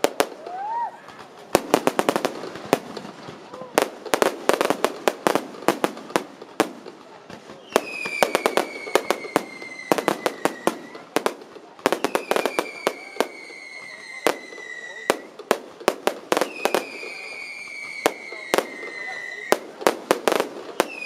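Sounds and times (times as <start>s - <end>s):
fireworks bursting bangs: 0.0s - 21.0s
whistling fireworks falling in pitch: 0.0s - 21.0s.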